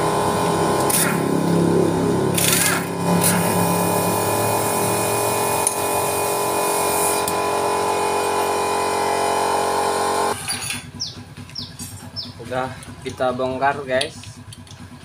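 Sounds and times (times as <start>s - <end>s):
pneumatic impact wrench whining: 0.0s - 12.2s.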